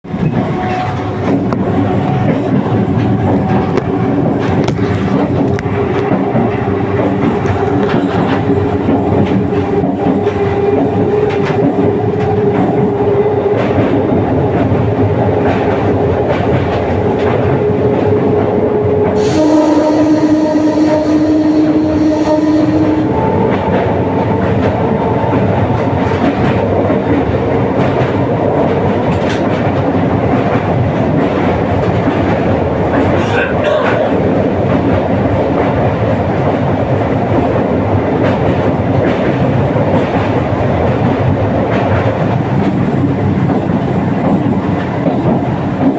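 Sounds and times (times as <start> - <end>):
train rumbling on rails: 0.0 - 45.9.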